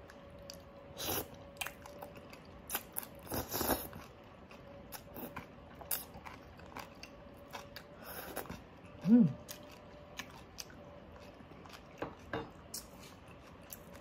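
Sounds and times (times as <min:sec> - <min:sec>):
chewing: 0:00.4 - 0:14.0.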